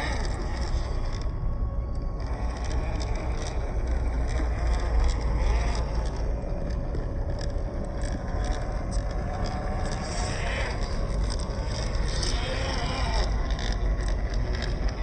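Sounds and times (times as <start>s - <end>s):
wind rumble on microphone: 0.0s - 15.0s
electric motor whining: 2.1s - 15.0s.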